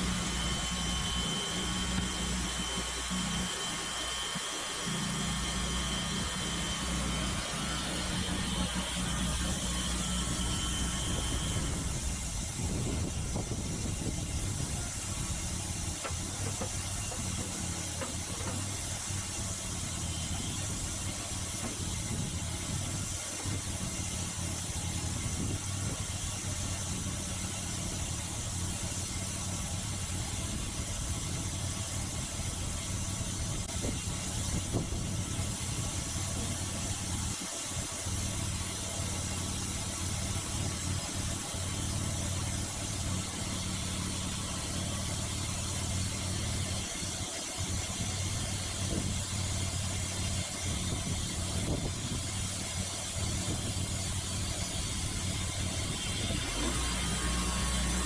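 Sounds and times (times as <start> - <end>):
gasoline engine running: 0.0 - 58.0.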